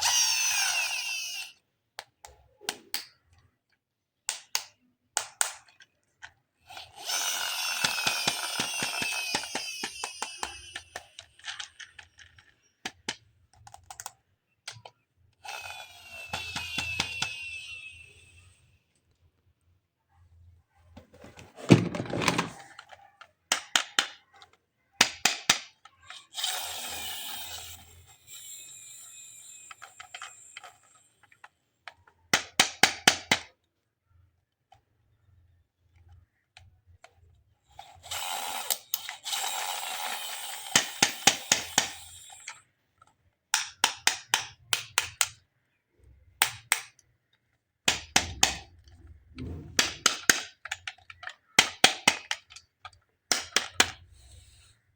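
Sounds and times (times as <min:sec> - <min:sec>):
plastic toys clicking: 0:00.0 - 0:19.4, 0:21.7 - 0:49.2, 0:49.8 - 0:54.8.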